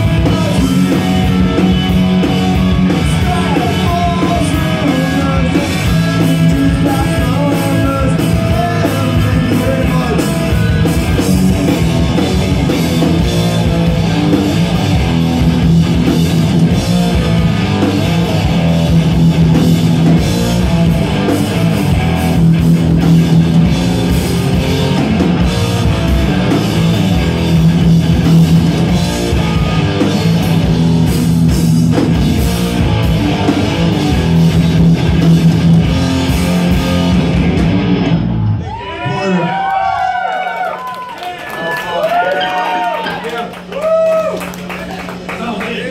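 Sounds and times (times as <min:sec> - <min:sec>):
punk rock band playing: 0:00.0 - 0:40.0.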